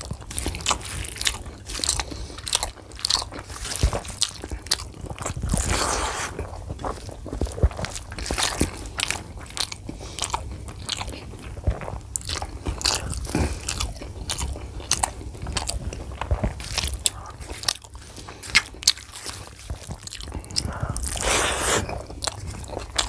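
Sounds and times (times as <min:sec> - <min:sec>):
person chewing rice: 0:00.0 - 0:23.0.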